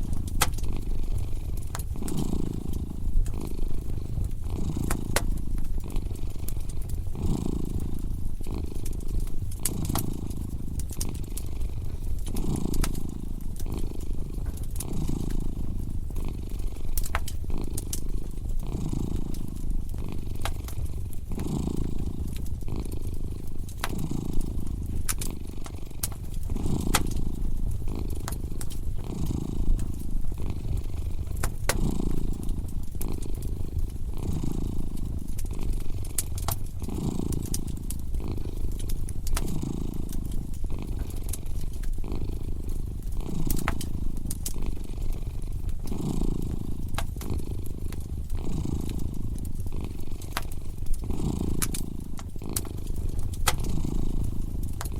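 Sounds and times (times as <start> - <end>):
cat purring: 0.0 - 54.9
wood fire crackling and popping: 0.0 - 54.9.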